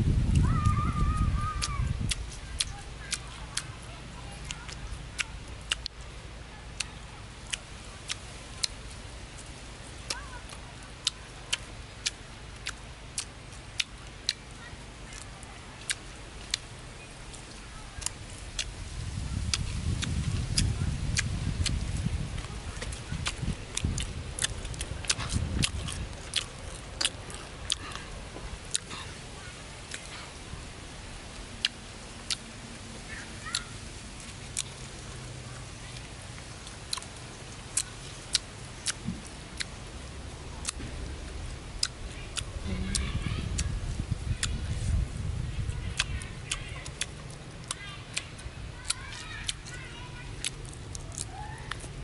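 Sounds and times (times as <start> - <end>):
chewing with mouth smacks: 0.3 - 6.1, 6.8 - 16.7, 17.3 - 30.4, 31.5 - 32.5, 33.1 - 34.8, 35.4 - 39.9, 40.6 - 52.0.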